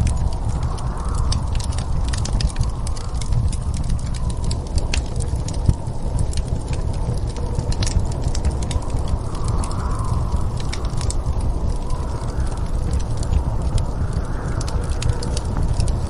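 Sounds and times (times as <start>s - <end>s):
low rumble of storm wind: 0.0s - 16.0s
wood fire crackling and popping: 0.0s - 16.0s.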